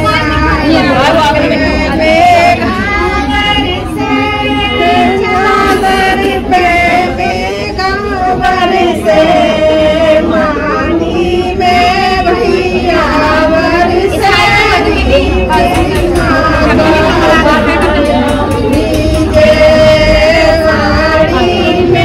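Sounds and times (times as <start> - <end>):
women singing together: 0.0 - 22.0.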